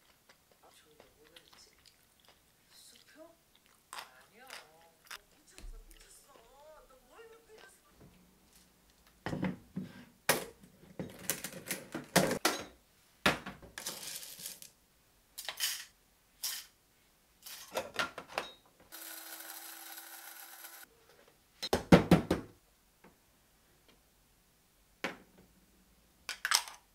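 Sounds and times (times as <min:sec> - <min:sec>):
steady hiss with faint hum: 0:00.0 - 0:18.9, 0:20.8 - 0:26.9.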